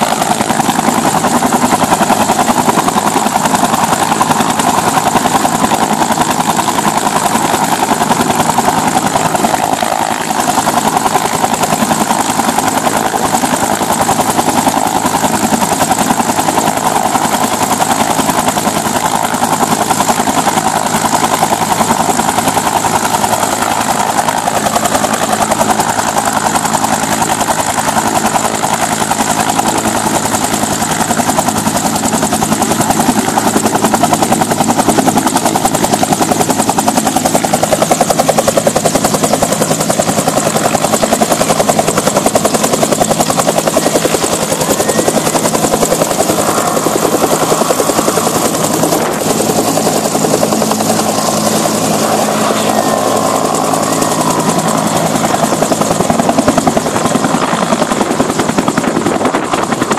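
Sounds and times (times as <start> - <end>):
helicopter rotor turning: 0.0 - 59.9
high turbine whine: 0.0 - 59.9.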